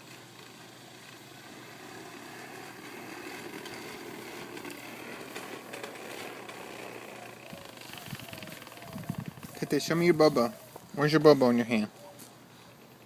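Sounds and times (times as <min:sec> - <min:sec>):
distant engine hum: 0:00.0 - 0:11.0.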